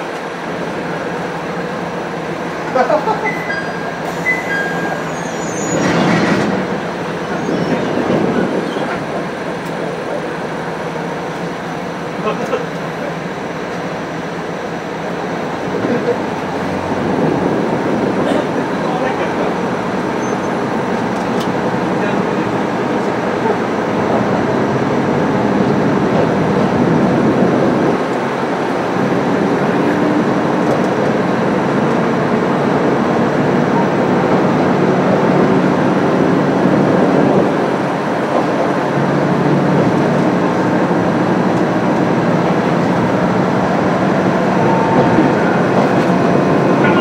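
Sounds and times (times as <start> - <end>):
diesel engine drone: 0.0 - 47.0
train wheels on rails: 0.0 - 47.0.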